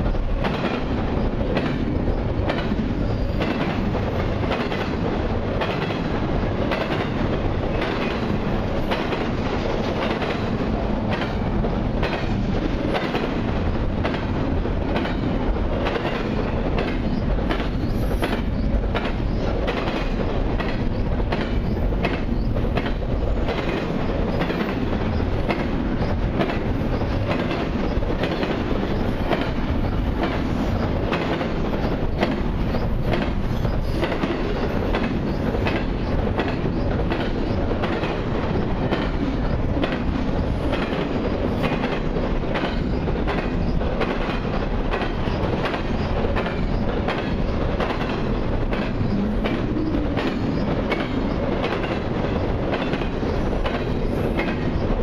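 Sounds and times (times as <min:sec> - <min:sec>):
train wheels rumbling on rail: 0:00.0 - 0:55.0
wheels clicking over rail joints: 0:00.0 - 0:55.0.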